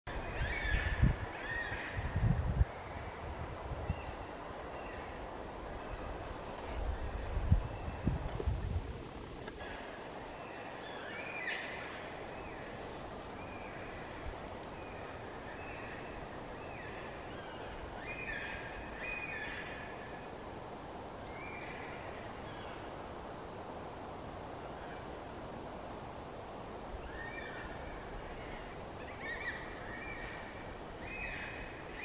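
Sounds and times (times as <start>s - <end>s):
wind roaring in tree branches: 0.1s - 32.0s.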